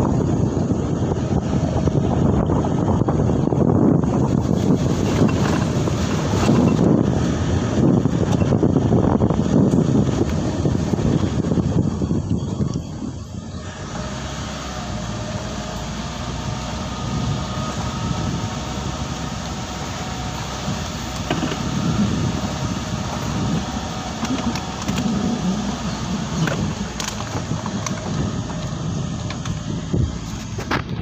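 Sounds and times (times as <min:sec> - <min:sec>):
vehicle engine and road noise: 0:00.0 - 0:31.0
wind buffeting microphone: 0:00.0 - 0:31.0.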